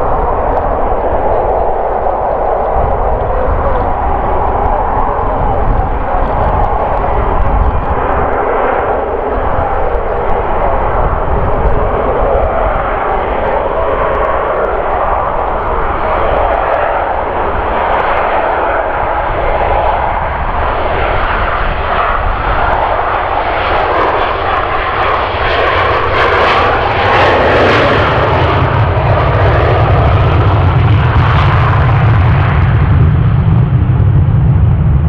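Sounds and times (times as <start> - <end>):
jet engine roar: 0.0 - 35.0.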